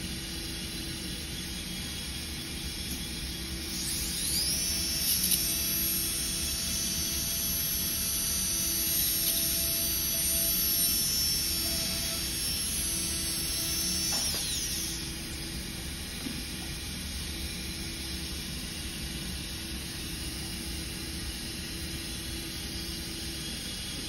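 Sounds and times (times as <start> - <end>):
dental drill whine: 0.0 - 24.0.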